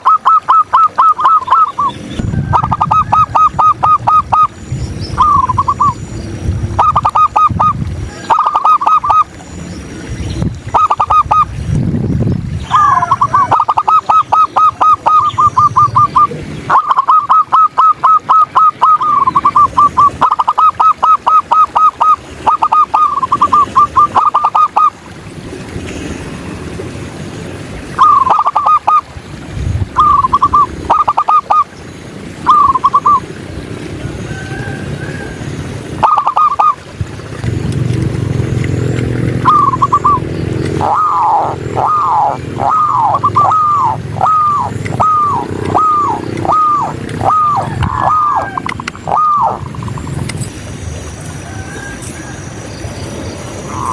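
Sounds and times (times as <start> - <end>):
doves calling: 0.0 - 26.7, 27.3 - 53.9.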